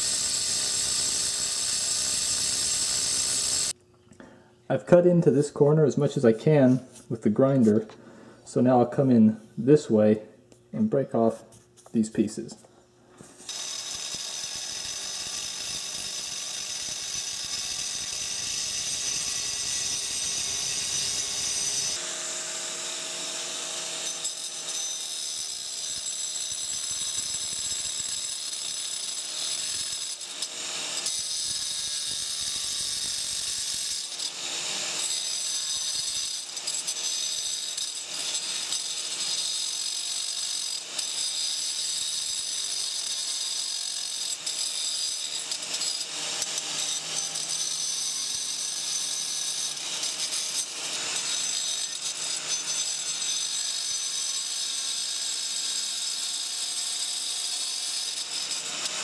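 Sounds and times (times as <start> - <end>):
angle grinder cutting stone: 0.0 - 3.8, 13.4 - 59.0.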